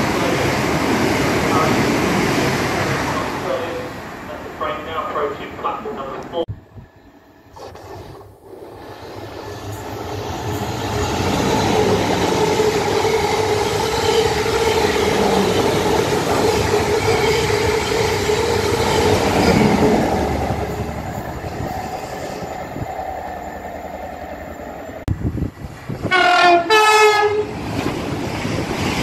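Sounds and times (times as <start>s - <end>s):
train passing at speed: 0.0s - 7.6s, 8.4s - 29.0s.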